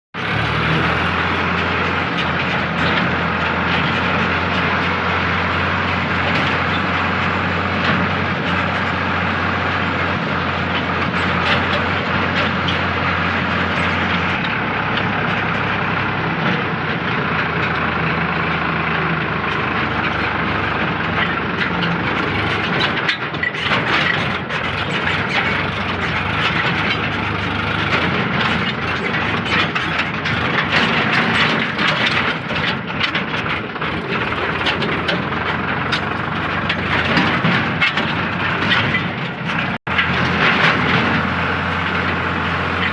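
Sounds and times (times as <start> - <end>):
tractor diesel engine under load: 0.1 - 42.9.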